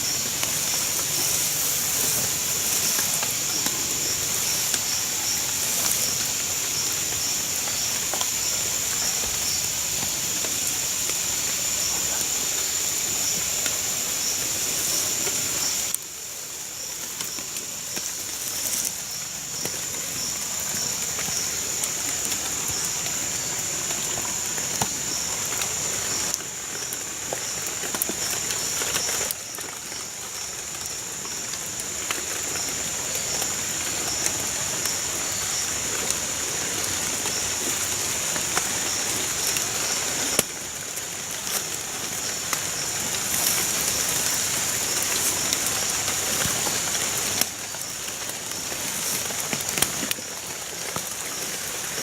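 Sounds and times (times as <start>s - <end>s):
rain-like hiss: 0.0s - 52.0s.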